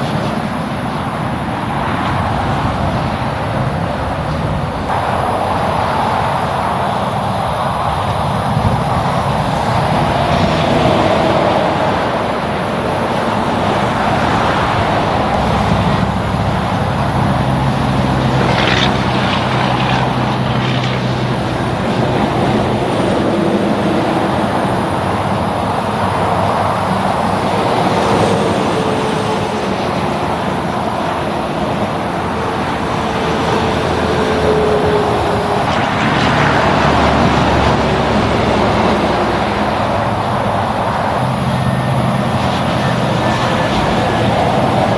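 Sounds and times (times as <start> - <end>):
passing vehicles: 0.0 - 44.9.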